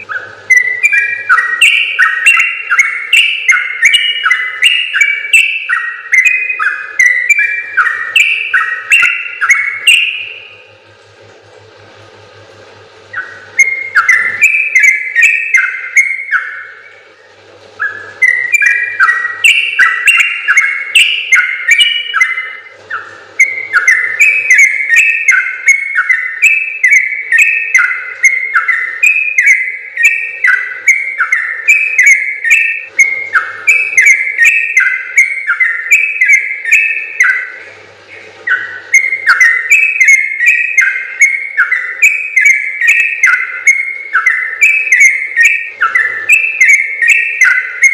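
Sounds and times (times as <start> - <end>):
bird singing bubbling whistled notes: 0.0 - 10.7, 13.1 - 47.9.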